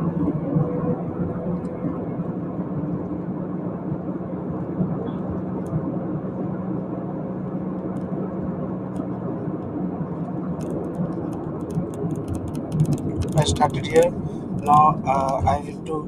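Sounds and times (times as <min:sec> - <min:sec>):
low whirring hum: 0:00.0 - 0:16.0.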